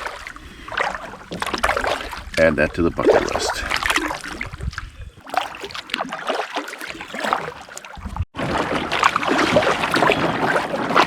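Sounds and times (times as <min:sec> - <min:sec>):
water dripping and sloshing: 0:00.0 - 0:11.0.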